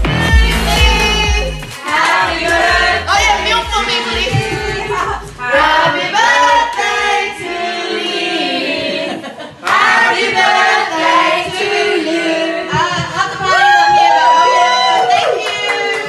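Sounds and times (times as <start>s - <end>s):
group of voices singing loudly: 0.0s - 13.6s
karaoke backing music: 0.0s - 14.4s.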